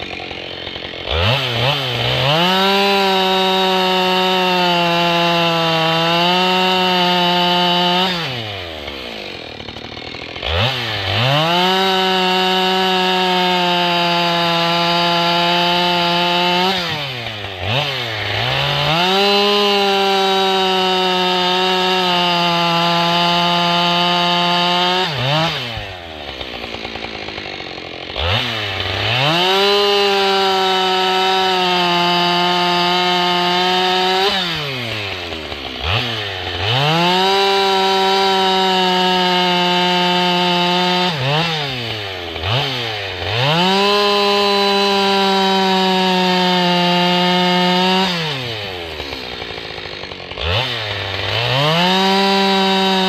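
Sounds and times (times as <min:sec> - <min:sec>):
chainsaw cutting wood: 0:00.0 - 0:53.0
chainsaw idling with throttle blips: 0:00.0 - 0:53.0.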